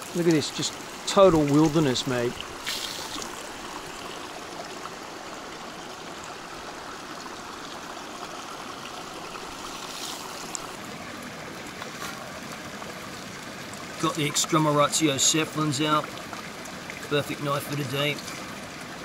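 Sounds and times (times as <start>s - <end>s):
creek burbling over rocks: 0.0s - 19.0s.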